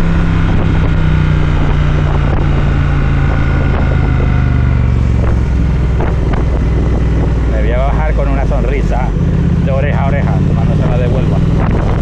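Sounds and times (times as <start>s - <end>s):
motorcycle engine running: 0.0s - 12.0s
road noise: 0.0s - 12.0s
wind: 0.0s - 12.0s.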